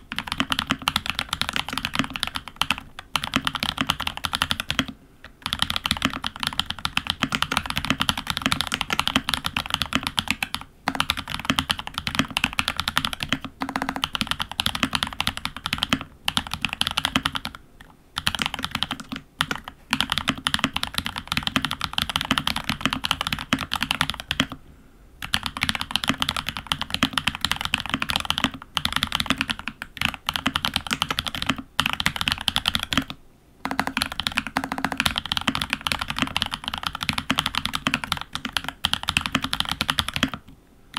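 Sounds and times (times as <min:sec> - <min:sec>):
fast mechanical keyboard typing: 0:00.0 - 0:17.6, 0:18.2 - 0:24.6, 0:25.2 - 0:40.5.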